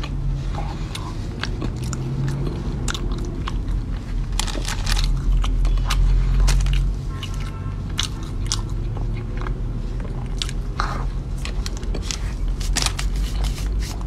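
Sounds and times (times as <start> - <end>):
chewing crisp cookie: 0.0 - 14.0.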